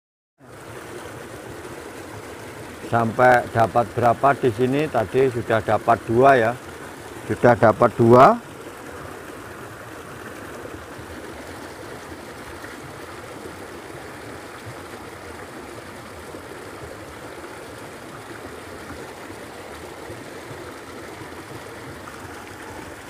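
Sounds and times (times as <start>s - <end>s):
stream water flowing: 0.4s - 23.0s.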